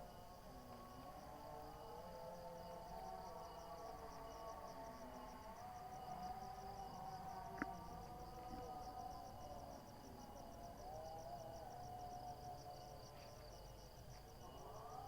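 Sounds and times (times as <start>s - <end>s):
distant wavering sung tone: 0.0s - 15.0s
insects chirping: 0.0s - 15.0s.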